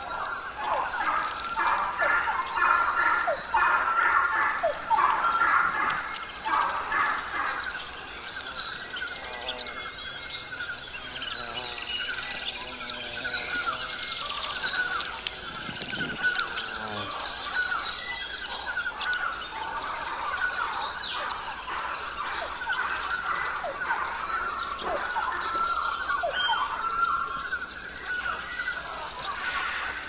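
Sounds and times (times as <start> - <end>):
birds chirping and singing: 0.0 - 30.0.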